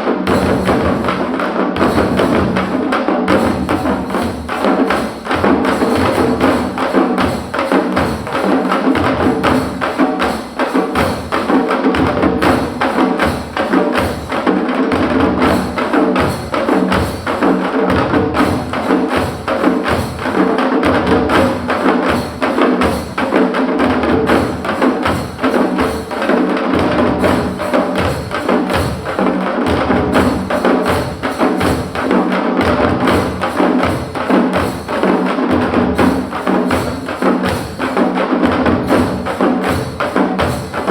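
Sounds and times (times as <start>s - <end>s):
frame drums beaten fast: 0.0s - 40.9s.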